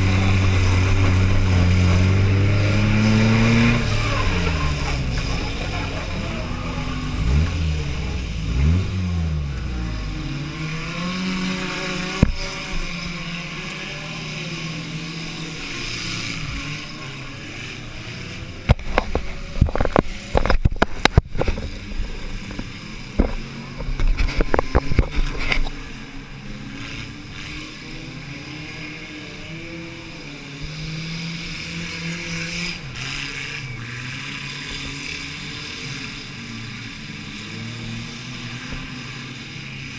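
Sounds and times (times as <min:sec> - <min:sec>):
small car engine revving: 0:00.0 - 0:39.9.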